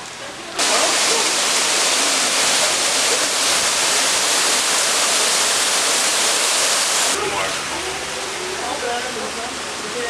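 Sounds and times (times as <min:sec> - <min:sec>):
waterfall splashing over rocks: 0:00.6 - 0:10.0.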